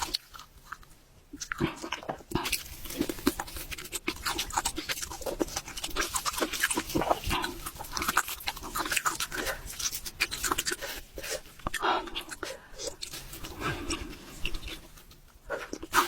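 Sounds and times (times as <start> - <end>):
wet chewing and lip-smacking: 0.0 - 16.0.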